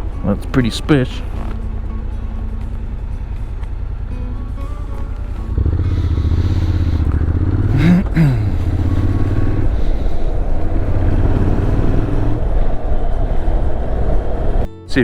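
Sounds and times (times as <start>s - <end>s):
motorcycle engine revving: 0.0s - 14.7s.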